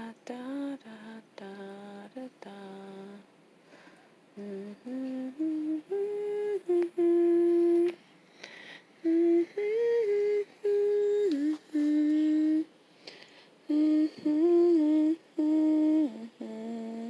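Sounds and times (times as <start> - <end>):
person humming a slow tune: 0.0 - 3.2, 4.4 - 8.0, 9.0 - 12.7, 13.6 - 17.0.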